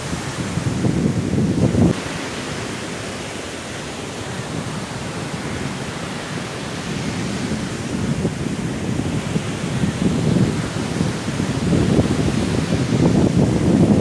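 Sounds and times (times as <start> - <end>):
sea surf: 0.0 - 14.0
strong wind: 0.0 - 14.0.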